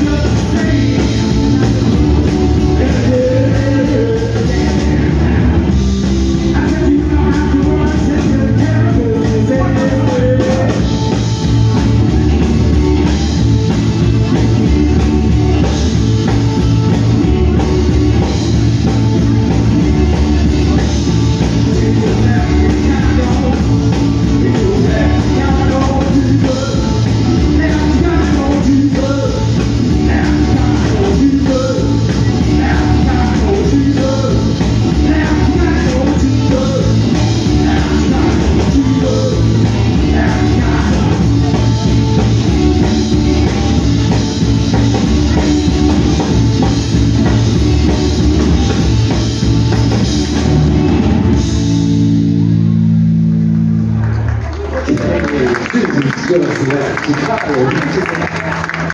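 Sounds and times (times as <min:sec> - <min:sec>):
distorted electric guitar: 0:00.0 - 0:58.9
drum kit: 0:00.0 - 0:58.9.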